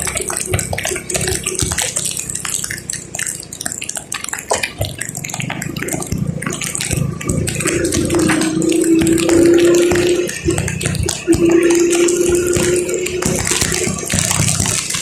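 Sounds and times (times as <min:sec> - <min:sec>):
rain tapping on car: 0:00.0 - 0:15.0.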